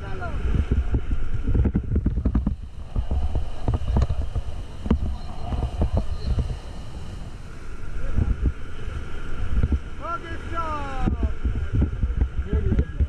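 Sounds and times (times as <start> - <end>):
whitewater rapids rushing: 0.0 - 12.8
wind buffeting microphone: 0.0 - 13.0.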